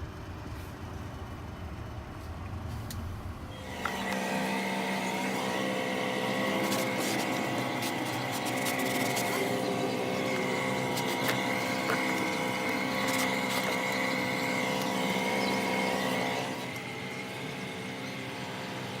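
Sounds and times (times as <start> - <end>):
machine whining and humming: 0.0 - 19.0.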